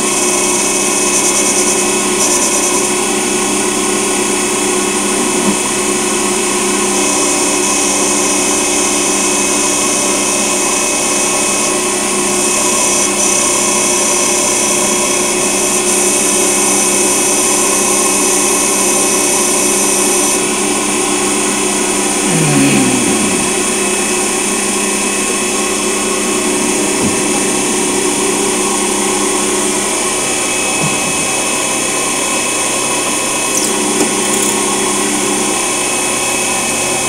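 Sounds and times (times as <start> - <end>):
lathe spindle whine: 0.0 - 22.3, 23.4 - 37.0.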